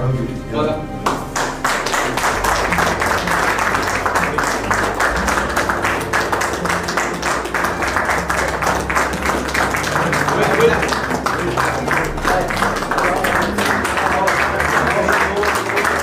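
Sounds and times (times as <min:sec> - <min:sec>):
people clapping: 0:01.0 - 0:16.0.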